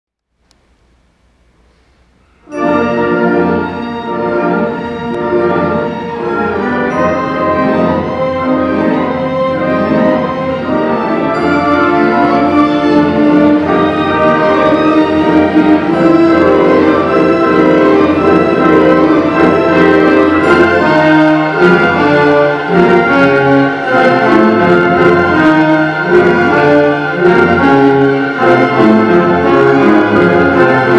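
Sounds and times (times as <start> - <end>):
orchestra playing a waltz: 2.0 - 30.9.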